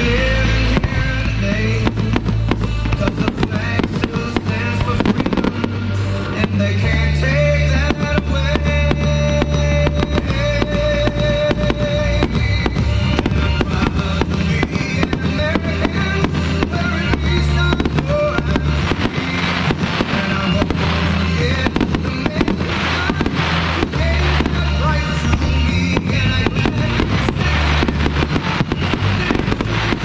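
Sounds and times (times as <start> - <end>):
fireworks bursting and crackling: 0.0 - 30.0
music with steady bass line: 0.0 - 30.0.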